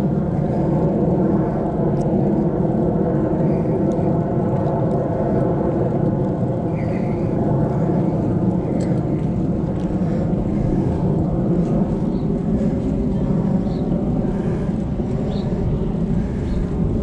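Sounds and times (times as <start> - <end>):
bicycle tyre noise: 0.0 - 17.0
wind rumble on microphone: 0.0 - 17.0.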